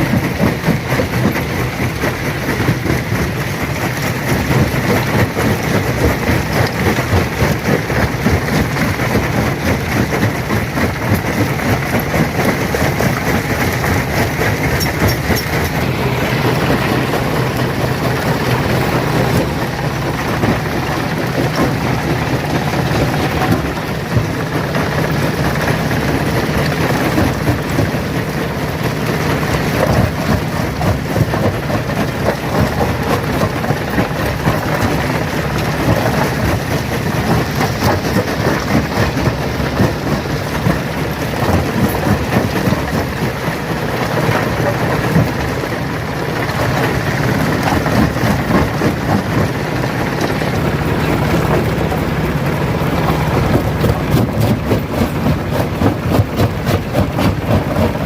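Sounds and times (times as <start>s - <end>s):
low machine hum: 0.0s - 58.0s
stone crusher crushing rock: 0.0s - 58.0s.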